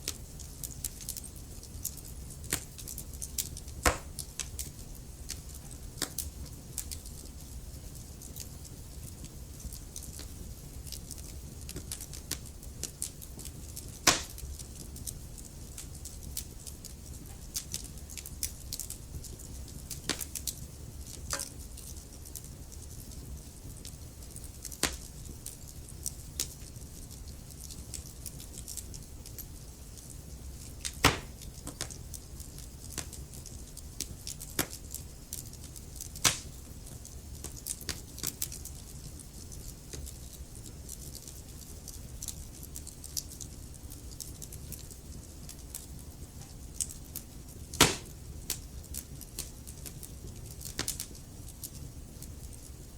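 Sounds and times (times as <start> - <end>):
fire crackling and popping: 0.0 - 52.9.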